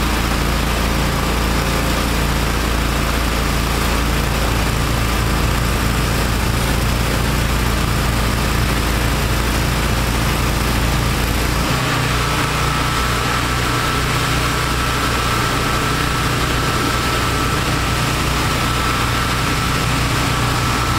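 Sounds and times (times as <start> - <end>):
engines running steadily: 0.0 - 20.9
thin steady whine: 0.0 - 20.9.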